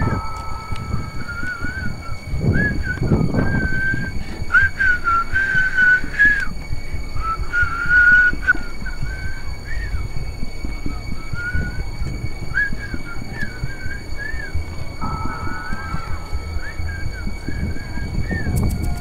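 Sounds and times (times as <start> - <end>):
low rumbling noise: 0.0 - 19.0
whistled melody: 0.0 - 19.0.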